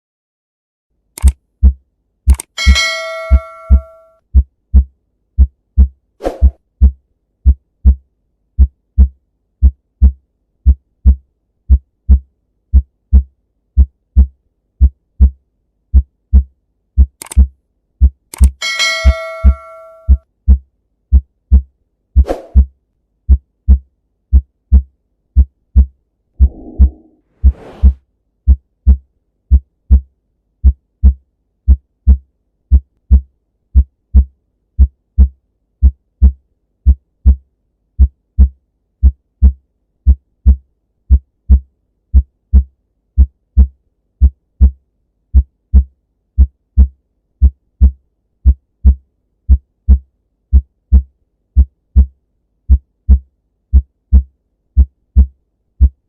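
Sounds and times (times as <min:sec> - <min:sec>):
heartbeat through stethoscope: 0:01.6 - 0:02.4, 0:03.3 - 0:17.4, 0:18.0 - 0:18.3, 0:19.0 - 0:56.0.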